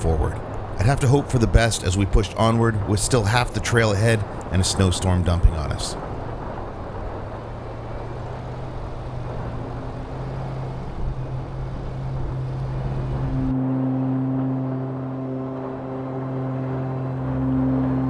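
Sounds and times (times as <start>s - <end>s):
low ambient drone: 0.0s - 18.0s
road and tyre noise: 0.0s - 18.0s
truck engine hum: 0.0s - 18.0s.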